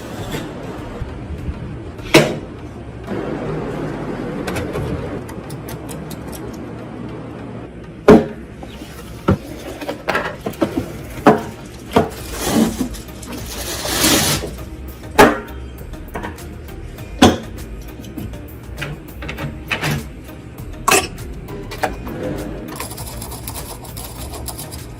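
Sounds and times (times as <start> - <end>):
soft background music: 0.0 - 24.9.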